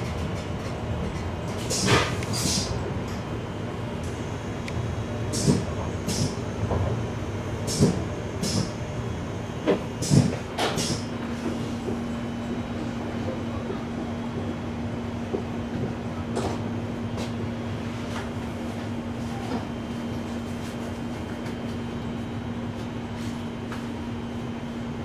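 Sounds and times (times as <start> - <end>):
train interior rumble and hiss: 0.0 - 25.0.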